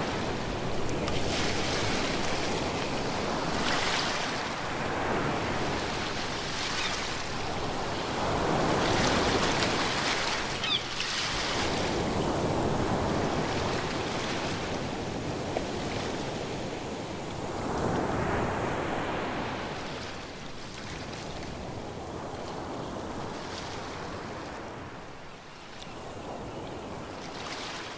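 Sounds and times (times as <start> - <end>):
ocean waves breaking on shore: 0.0 - 27.9.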